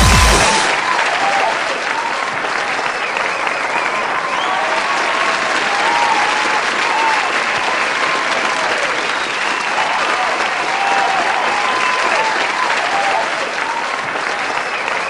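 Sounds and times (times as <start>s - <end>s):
crowd calls: 0.0s - 15.0s
crowd cheering and clapping: 0.0s - 15.0s.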